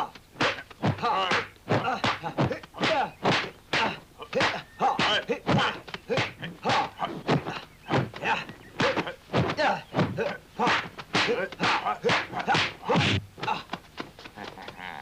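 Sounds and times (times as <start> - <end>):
fighters shouting and grunting: 0.0 - 13.8
punch and block impacts: 0.4 - 13.6.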